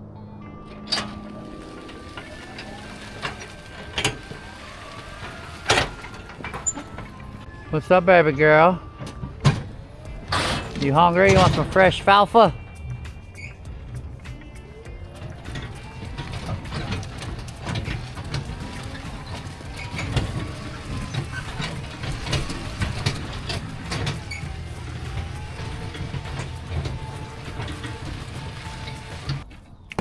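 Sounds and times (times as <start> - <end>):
load and trailer rattling: 0.0 - 30.0
trike motor rumble and whine: 0.0 - 30.0.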